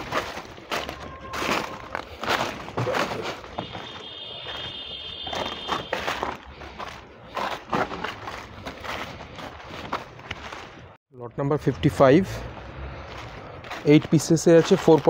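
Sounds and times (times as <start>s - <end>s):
footsteps crunching on dry leaves: 0.0s - 11.0s, 12.4s - 15.0s.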